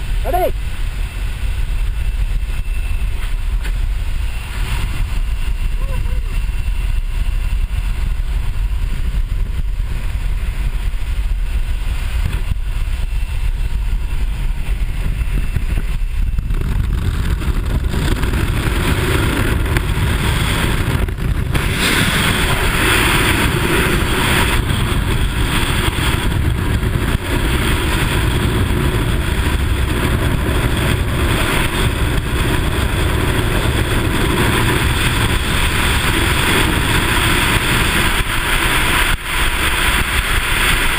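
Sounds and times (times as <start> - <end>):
freefall wind on microphone: 0.0 - 40.9
light aircraft engine: 0.0 - 40.9
air rushing past: 6.4 - 40.9.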